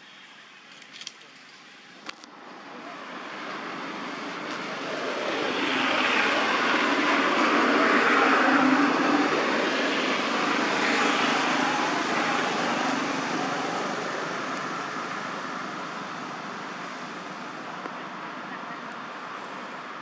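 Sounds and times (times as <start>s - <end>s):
engine passing: 2.4s - 18.5s.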